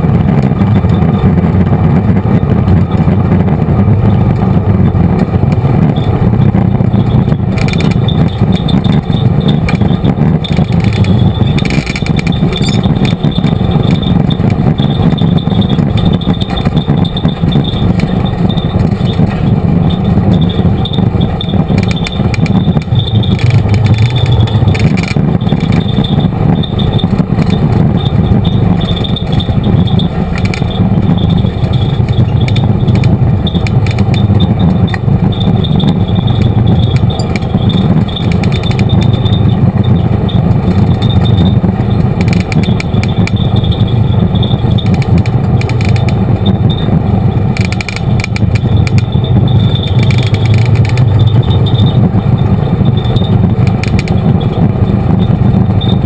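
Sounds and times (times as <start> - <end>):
body and roll cage rattling: 0.0 - 56.0
vehicle engine running: 0.0 - 56.0.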